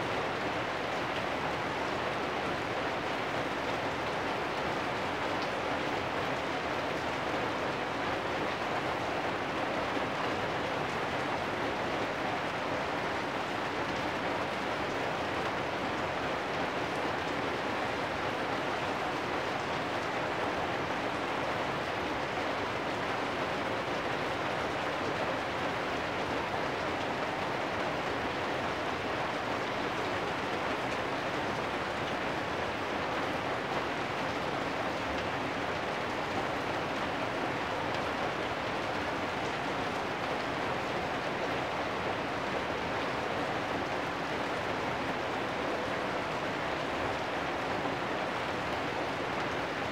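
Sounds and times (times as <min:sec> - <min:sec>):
rain on metal roofs: 0:00.0 - 0:49.9.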